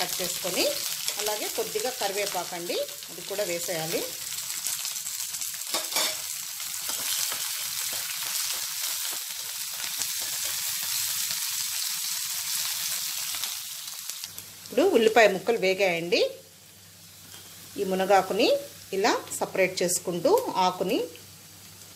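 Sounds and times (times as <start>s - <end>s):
onion frying in hot oil: 0.0s - 21.9s.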